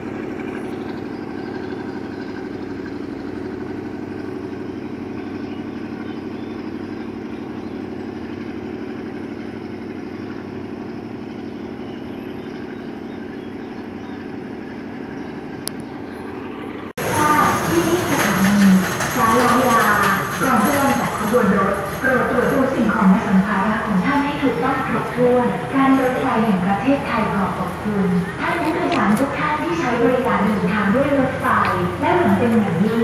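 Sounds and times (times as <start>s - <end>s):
diesel locomotive idling: 0.0s - 33.0s.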